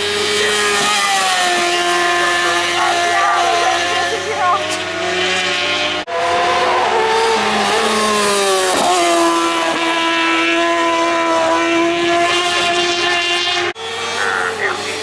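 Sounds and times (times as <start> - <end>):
racing motorcycle engine at high revs: 0.0 - 15.0.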